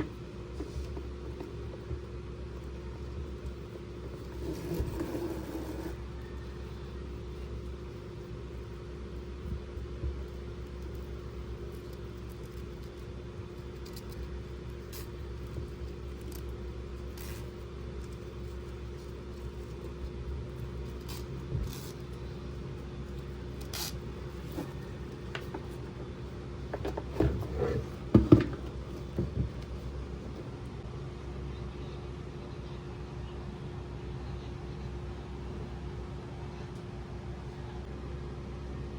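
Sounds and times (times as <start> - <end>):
low background hum: 0.0 - 38.9.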